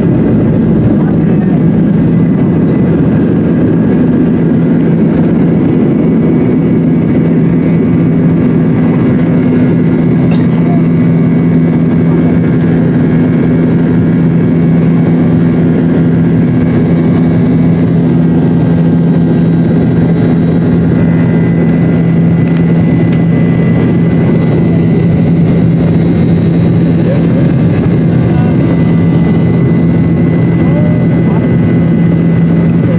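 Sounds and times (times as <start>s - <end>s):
jet engines droning: 0.0s - 32.9s.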